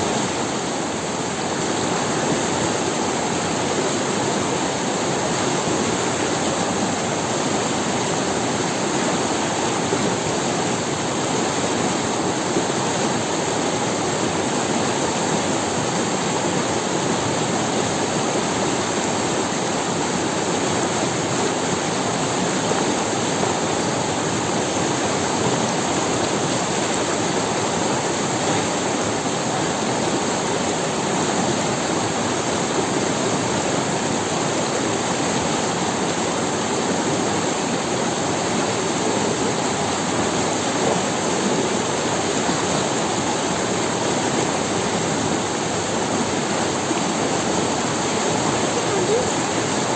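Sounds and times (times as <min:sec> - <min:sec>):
river rushing over stones: 0:00.0 - 0:49.9.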